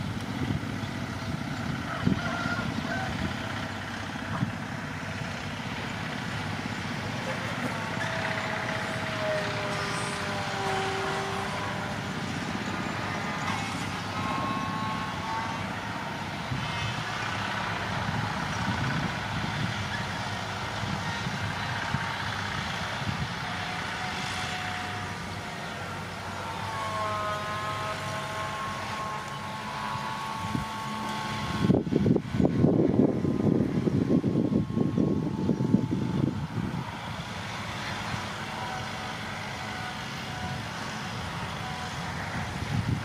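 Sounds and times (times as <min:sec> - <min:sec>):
truck engines rumbling: 0:00.0 - 0:43.0.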